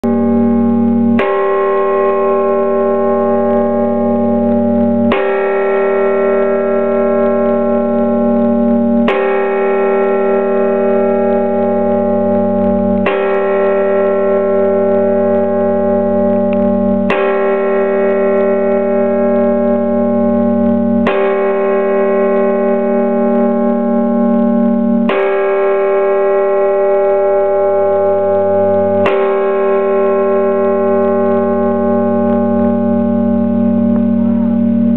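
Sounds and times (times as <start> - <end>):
large bell tolling: 0.0 - 34.9.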